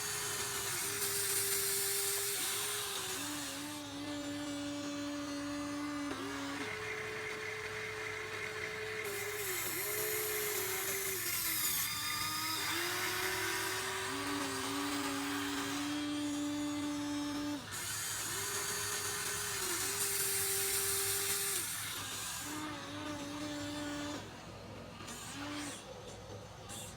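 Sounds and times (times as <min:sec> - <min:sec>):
small electric motors whining: 0:00.0 - 0:26.9.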